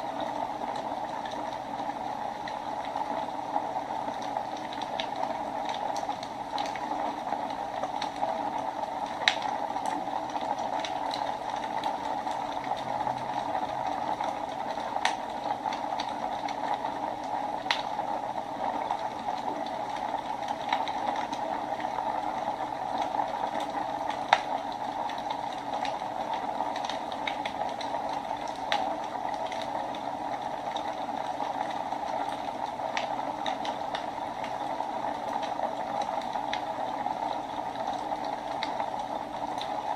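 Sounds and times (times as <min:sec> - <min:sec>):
wood fire crackling and popping: 0:00.2 - 0:39.9.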